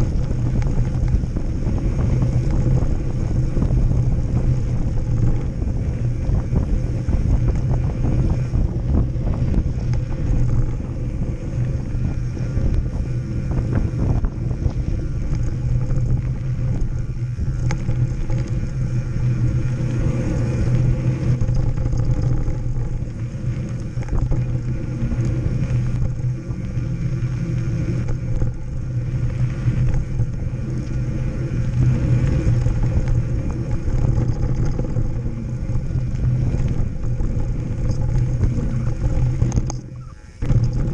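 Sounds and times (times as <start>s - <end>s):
bike rattling: 0.0s - 40.9s
tyres rolling over dirt: 0.0s - 40.9s.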